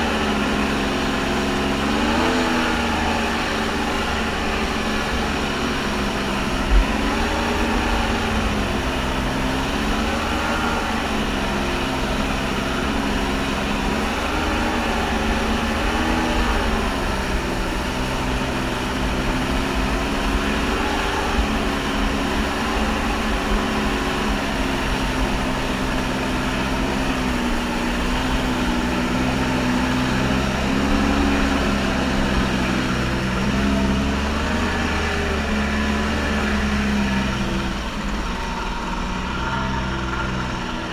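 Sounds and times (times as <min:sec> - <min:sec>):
jet ski engine revving: 0:00.0 - 0:40.9.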